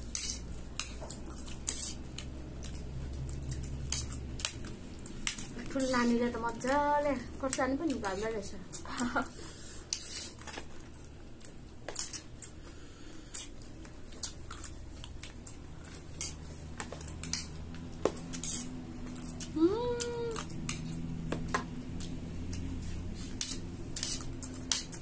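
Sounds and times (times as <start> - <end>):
chewing: 0.1 - 6.0, 8.7 - 25.0.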